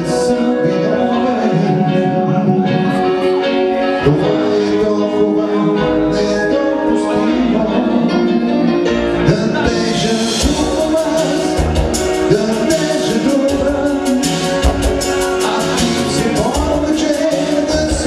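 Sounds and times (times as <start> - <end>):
man singing into a microphone: 0.0 - 18.0
music with a steady beat: 0.0 - 18.0.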